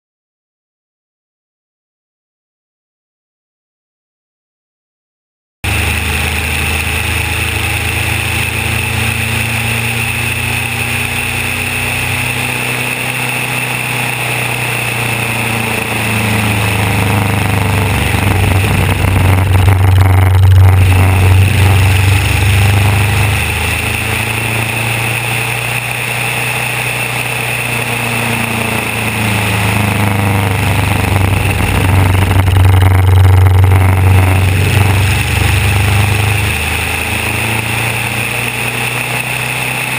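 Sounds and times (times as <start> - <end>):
aircraft piston engine drone: 5.6 - 39.9
rushing airflow: 5.7 - 39.9.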